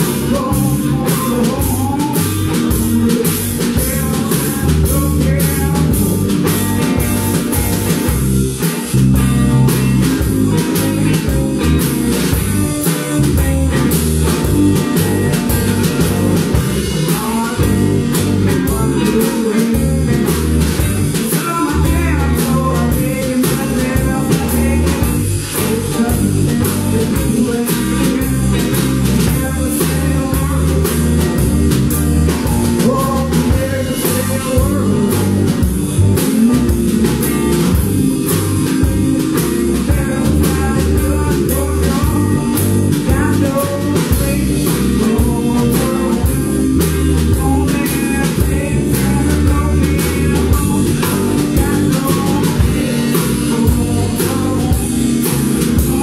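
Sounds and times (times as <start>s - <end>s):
blues-rock band playing: 0.0s - 56.0s.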